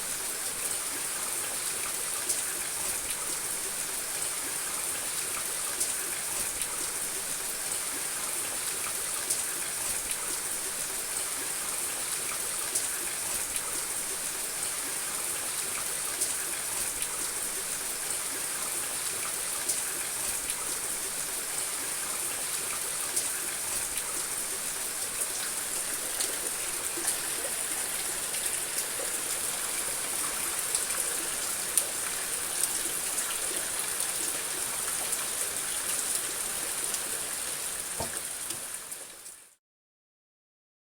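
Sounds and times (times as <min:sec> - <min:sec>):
rain falling on roof: 0:00.0 - 0:39.5.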